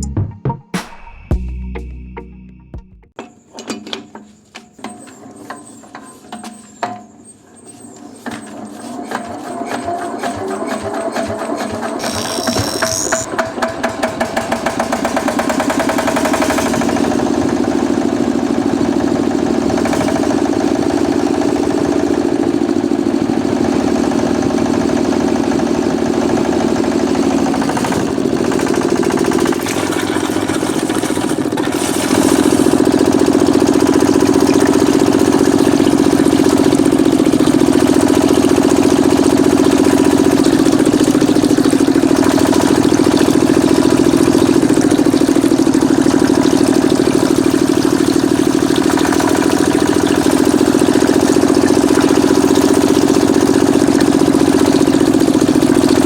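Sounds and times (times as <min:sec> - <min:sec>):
small tractor engine running: 0:04.8 - 0:56.0.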